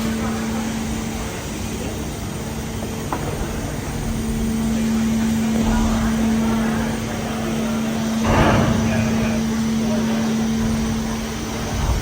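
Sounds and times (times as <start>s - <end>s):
ship engine drone: 0.0s - 12.0s.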